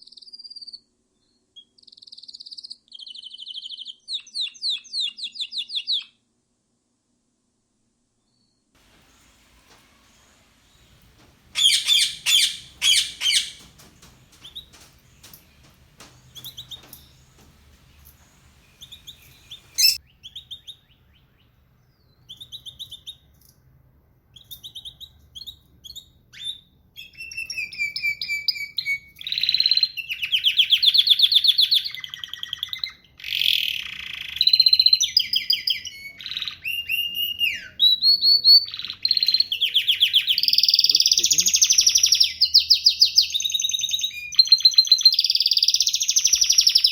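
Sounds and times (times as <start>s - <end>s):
songbirds chirping and trilling: 8.4s - 46.9s.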